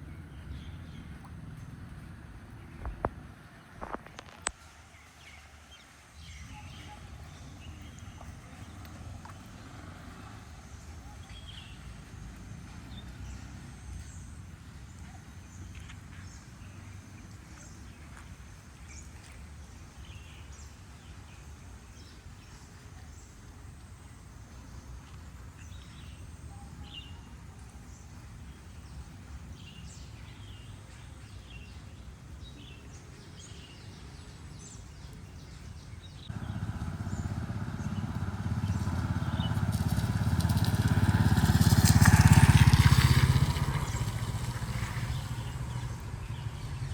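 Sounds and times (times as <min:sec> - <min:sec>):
rain: 0:01.2 - 0:29.5, 0:30.1 - 0:46.9.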